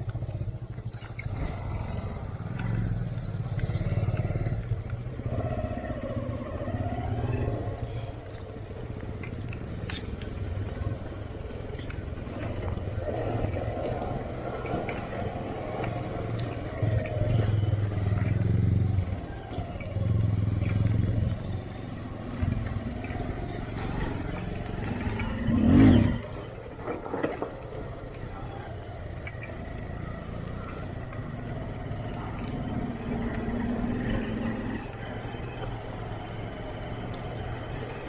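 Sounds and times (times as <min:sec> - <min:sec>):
sharp ticks: 0:00.0 - 0:26.6, 0:28.0 - 0:38.0
motorcycle engine at low revs: 0:00.0 - 0:38.0.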